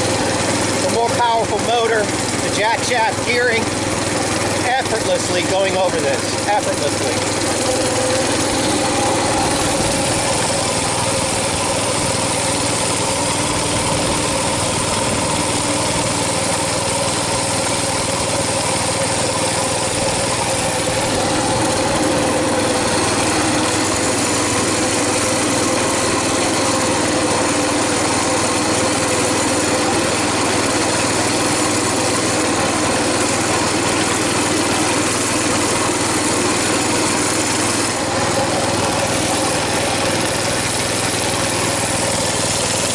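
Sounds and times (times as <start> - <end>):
mini bike engine running steadily: 0.0 - 42.9.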